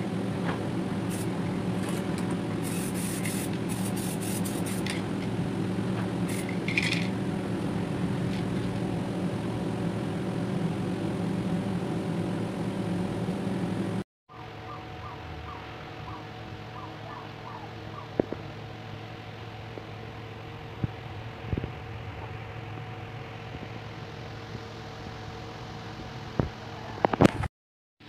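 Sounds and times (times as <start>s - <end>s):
extraction fan humming: 0.0s - 27.2s.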